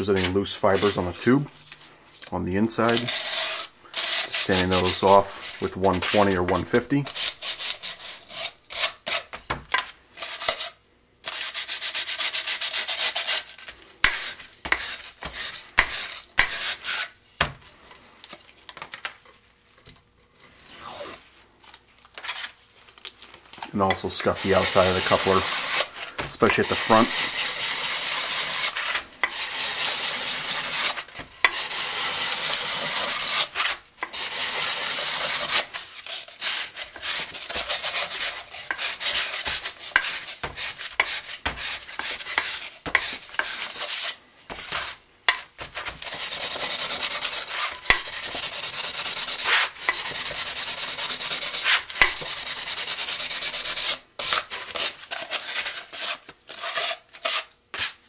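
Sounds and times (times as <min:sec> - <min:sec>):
sandpaper scraping a tube: 0:00.0 - 0:01.3, 0:02.8 - 0:09.4, 0:10.2 - 0:17.2, 0:23.8 - 0:45.0, 0:45.6 - 0:58.0.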